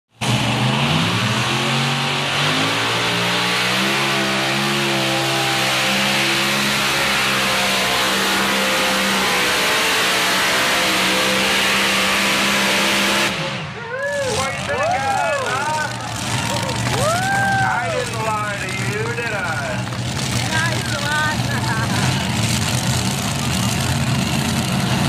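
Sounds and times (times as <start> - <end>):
tractor engine at full power: 0.1 - 25.0.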